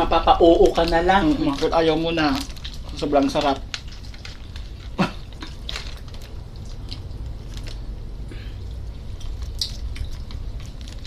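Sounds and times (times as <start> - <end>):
low steady hum: 0.0 - 11.0
people chewing: 0.4 - 11.0.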